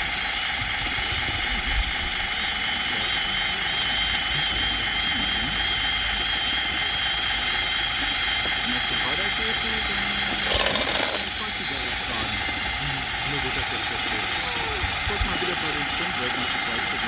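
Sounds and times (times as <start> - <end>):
hydraulic pump whine: 0.0 - 17.0.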